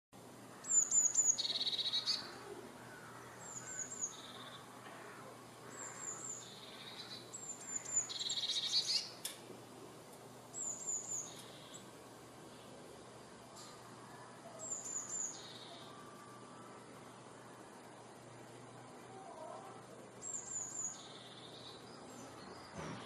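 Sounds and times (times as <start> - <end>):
bird singing: 0.4 - 9.3, 10.4 - 23.0.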